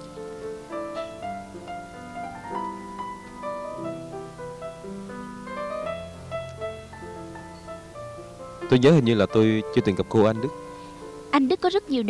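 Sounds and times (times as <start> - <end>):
slow piano music: 0.0 - 11.9.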